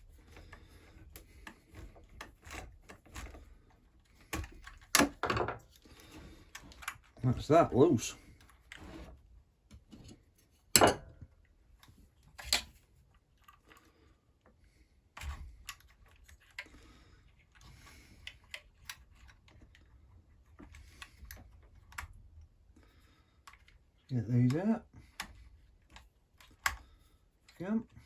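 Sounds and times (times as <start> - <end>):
small parts and tools clicking: 0.0 - 28.0.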